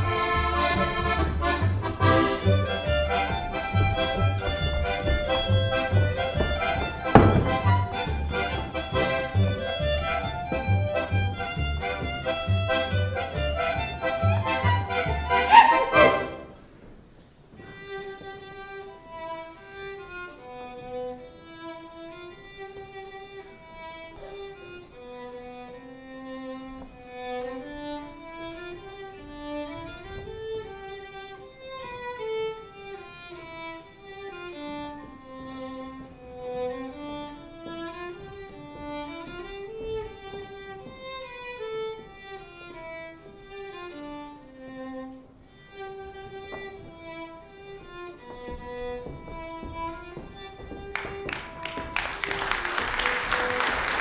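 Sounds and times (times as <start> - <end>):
violin folk melody: 0.0 - 54.0.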